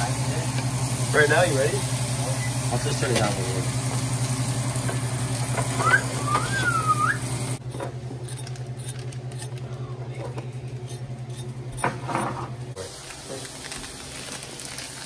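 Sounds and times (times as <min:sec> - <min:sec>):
induction cooktop electrical hum: 0:00.0 - 0:15.0.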